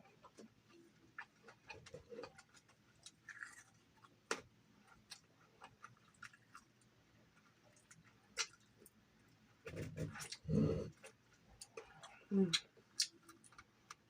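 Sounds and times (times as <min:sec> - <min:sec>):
chewing crispy food: 0:00.0 - 0:14.0.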